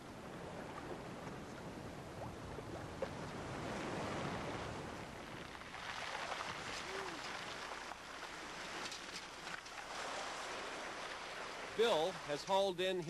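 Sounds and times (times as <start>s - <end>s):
paddle strokes in water: 0.0s - 12.6s
sea water lapping: 0.0s - 13.0s.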